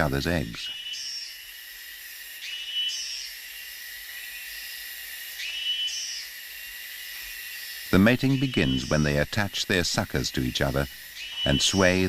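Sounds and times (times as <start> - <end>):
shrill insect chorus: 0.0 - 12.0.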